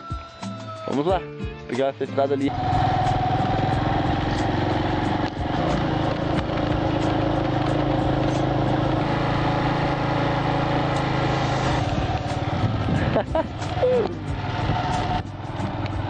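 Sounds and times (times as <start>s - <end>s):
motorcycle engine running: 2.5s - 16.0s.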